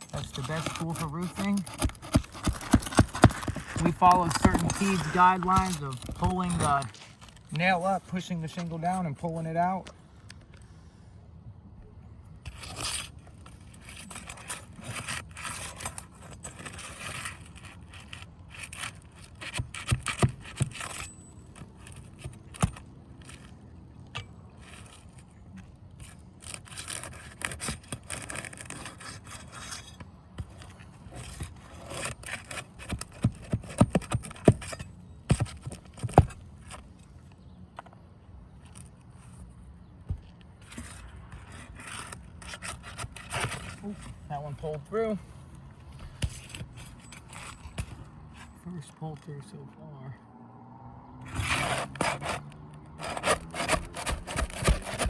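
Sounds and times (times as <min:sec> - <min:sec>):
pry bar scraping shingles: 0:00.0 - 0:10.0, 0:12.5 - 0:49.5, 0:51.2 - 0:55.0.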